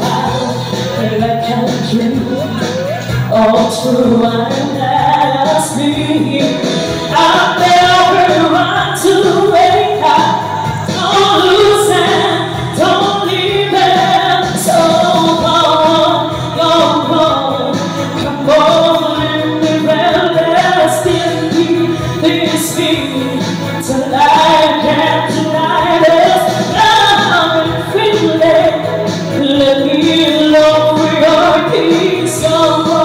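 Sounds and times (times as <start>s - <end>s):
musical accompaniment: 0.0s - 33.0s
woman singing into microphone: 0.0s - 33.0s.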